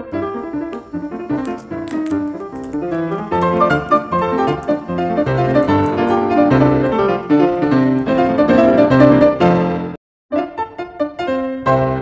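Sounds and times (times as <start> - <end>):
piano music quick notes: 0.0 - 9.9.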